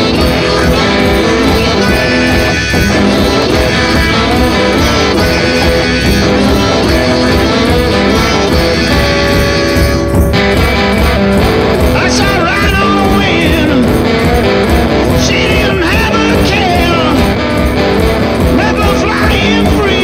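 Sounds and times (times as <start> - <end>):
rock and roll guitar over beat: 0.0 - 20.0.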